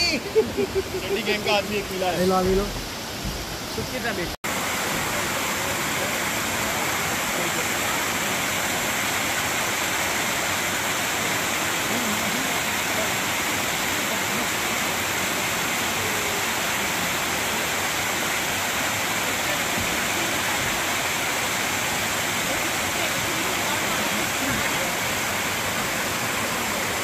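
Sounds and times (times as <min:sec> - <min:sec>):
waterfall rushing over rocks: 0:00.0 - 0:27.0.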